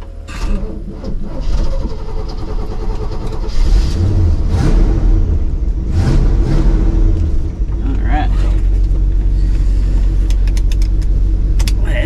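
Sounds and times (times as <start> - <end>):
truck engine running and revving: 0.0 - 12.0.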